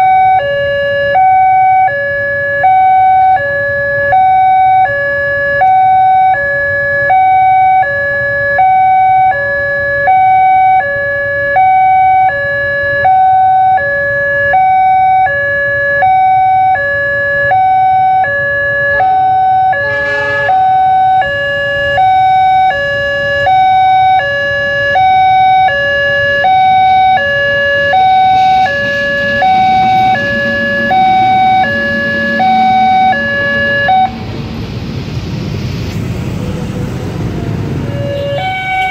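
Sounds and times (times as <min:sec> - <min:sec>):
two-tone crossing alarm: 0:00.0 - 0:34.9, 0:37.8 - 0:38.9
diesel locomotive rumble: 0:00.0 - 0:38.9.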